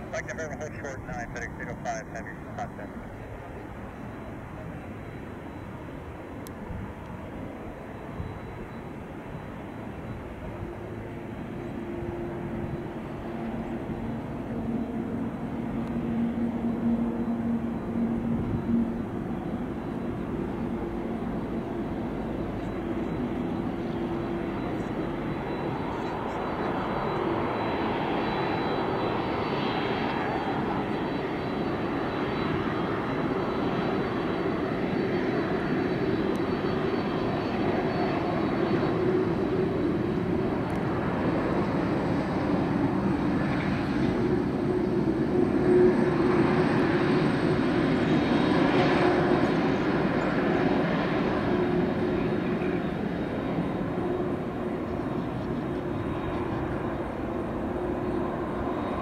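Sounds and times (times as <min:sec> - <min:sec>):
jet engine drone with whine: 0:00.0 - 0:59.0.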